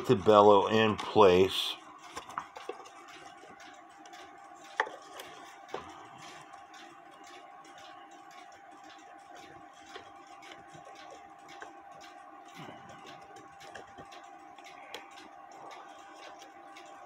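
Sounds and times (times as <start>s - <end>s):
clock parts clicking and knocking: 0.0s - 17.0s.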